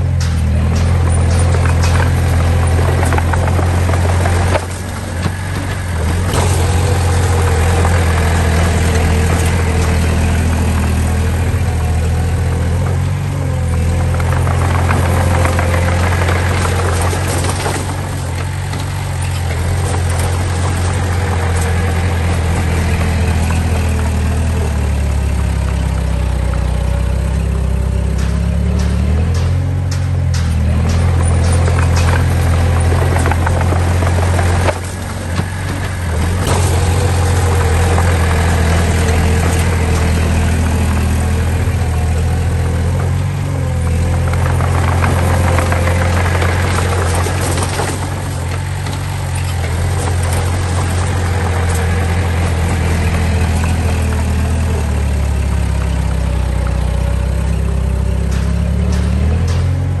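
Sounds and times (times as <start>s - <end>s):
diesel engine droning: 0.0s - 60.0s.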